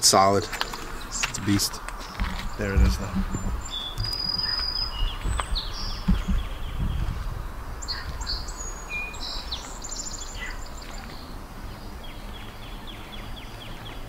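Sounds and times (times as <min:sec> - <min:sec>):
songbirds chirping and trilling: 0:00.0 - 0:14.0
low rumble: 0:00.5 - 0:13.2.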